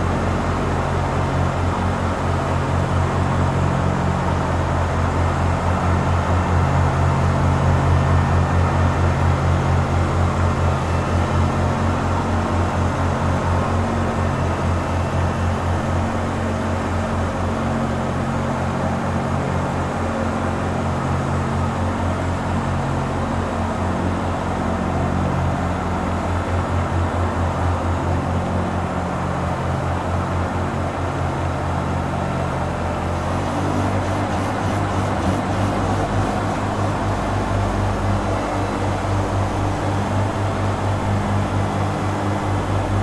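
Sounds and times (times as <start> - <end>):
ice resurfacer engine drone: 0.0 - 43.0
mechanical hum: 0.0 - 43.0.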